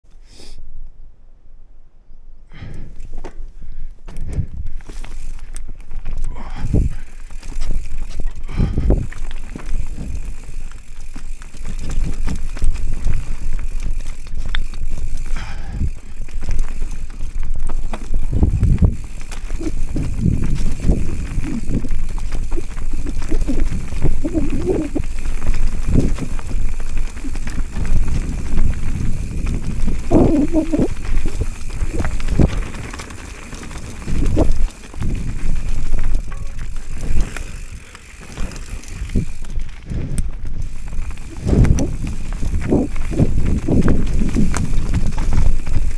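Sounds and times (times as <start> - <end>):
bike tyres rumbling on dirt: 2.5 - 45.9.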